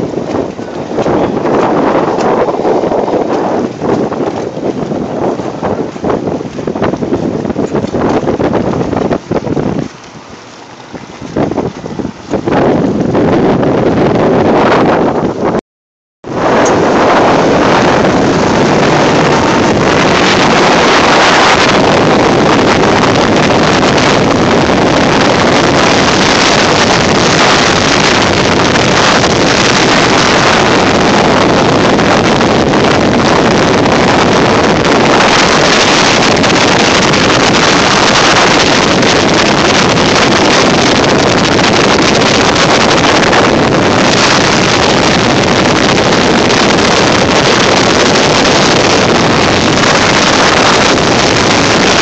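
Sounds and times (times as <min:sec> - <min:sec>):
motorboats running at speed: 0:00.0 - 0:15.6, 0:16.2 - 0:52.0
wind buffeting microphone: 0:00.0 - 0:15.6, 0:16.2 - 0:52.0.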